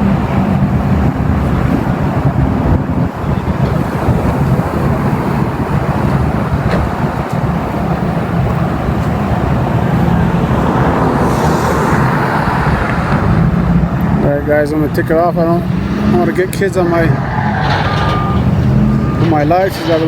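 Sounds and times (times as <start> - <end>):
vehicle road noise: 0.0 - 20.0.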